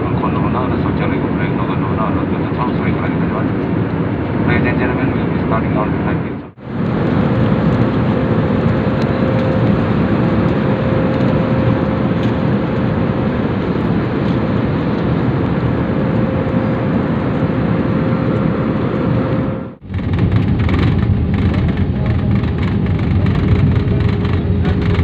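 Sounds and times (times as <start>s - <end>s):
jet engine and airflow rumble: 0.0s - 25.0s
steady cabin hum: 0.0s - 25.0s.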